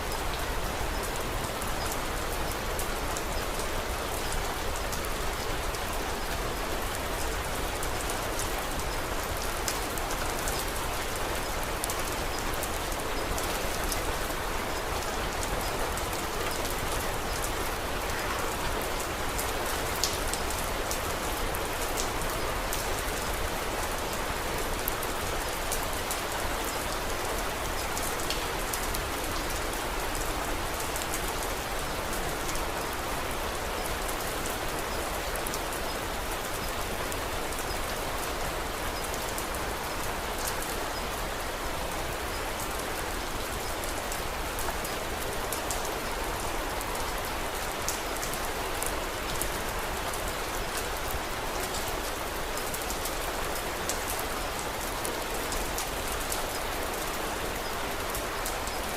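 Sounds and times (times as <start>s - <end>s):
steady rain: 0.0s - 58.9s
raindrops ticking on a surface: 0.1s - 58.9s.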